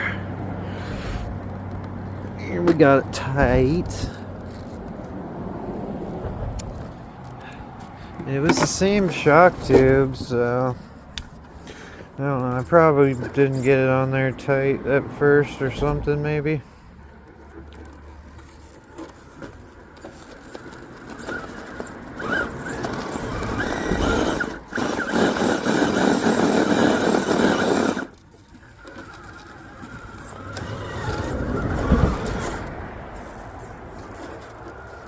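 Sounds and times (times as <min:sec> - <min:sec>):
electric motor and gears whining: 0:00.0 - 0:16.4, 0:17.2 - 0:35.0.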